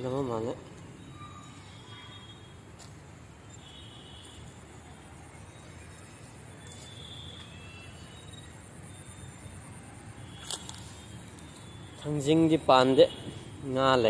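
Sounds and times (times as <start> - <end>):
faint high chirps: 0.1 - 2.8, 3.4 - 12.4.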